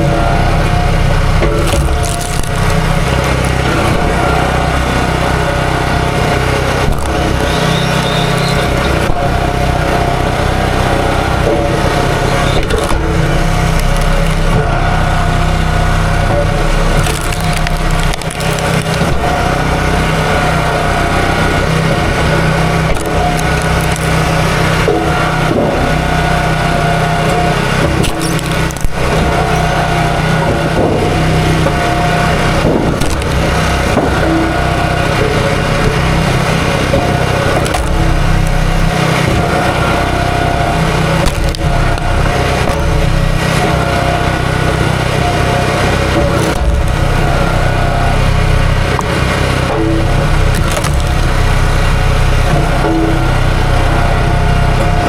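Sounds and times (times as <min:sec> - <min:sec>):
small gasoline engine running: 0:00.0 - 0:55.0
sharp cracks: 0:01.2 - 0:09.4, 0:12.0 - 0:14.6, 0:16.0 - 0:20.2, 0:21.3 - 0:30.8, 0:31.6 - 0:43.9, 0:45.8 - 0:53.6.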